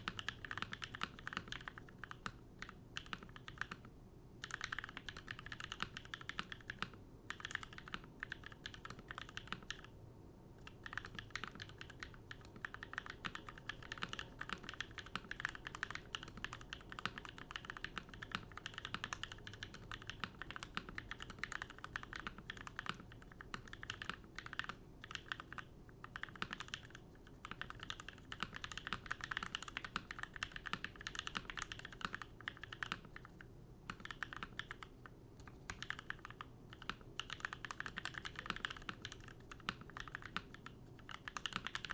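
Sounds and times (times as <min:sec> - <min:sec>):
mechanical keyboard typing: 0:00.0 - 0:10.0, 0:10.6 - 0:41.9.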